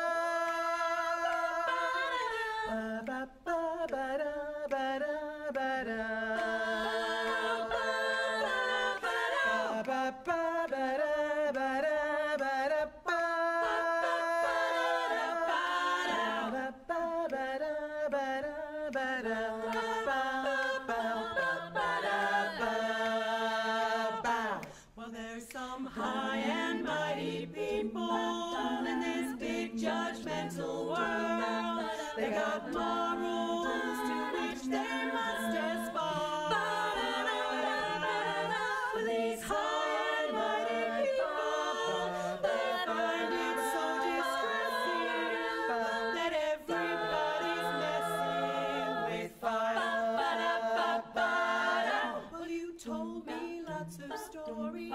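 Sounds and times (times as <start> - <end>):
women singing a cappella harmony: 0.0 - 54.9.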